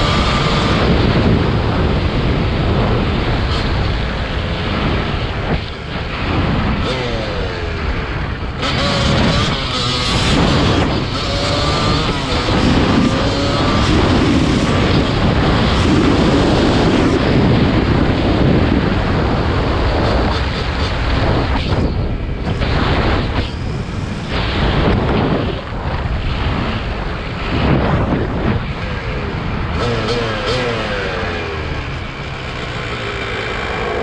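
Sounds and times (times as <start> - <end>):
motorcycle engines revving: 0.0 - 34.0
wind rush on microphone: 0.0 - 34.0.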